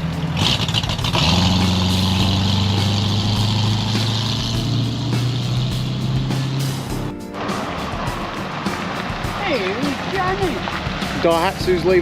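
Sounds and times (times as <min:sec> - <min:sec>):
car engine driving off: 0:00.0 - 0:11.6.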